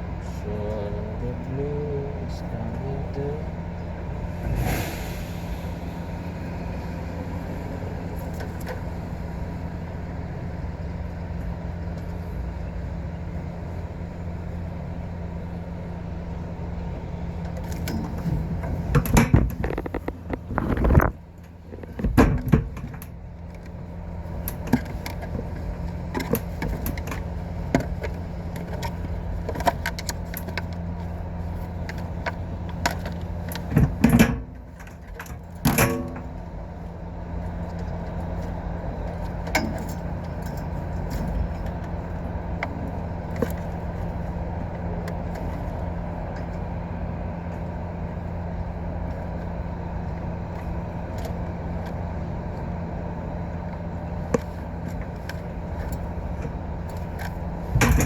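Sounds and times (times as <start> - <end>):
machinery hum: 0.0 - 58.0.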